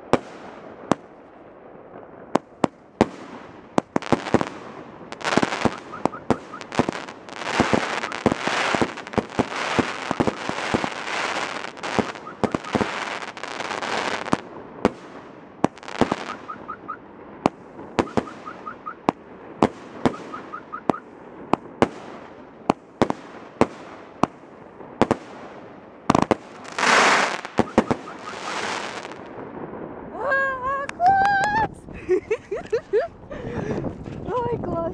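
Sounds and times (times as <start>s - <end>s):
fireworks bangs: 0.0s - 31.9s
fireworks hissing and crackling: 0.0s - 34.4s.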